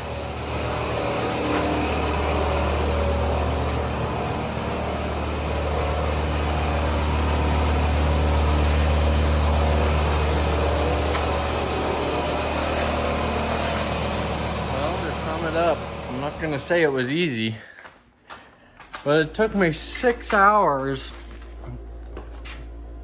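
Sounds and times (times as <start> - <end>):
car engine running: 0.0 - 16.9, 19.2 - 23.0.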